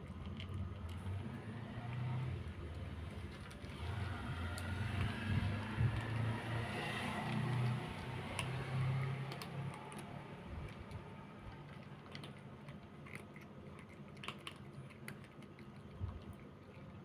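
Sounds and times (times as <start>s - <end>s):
cats crunching food: 0.0s - 17.0s.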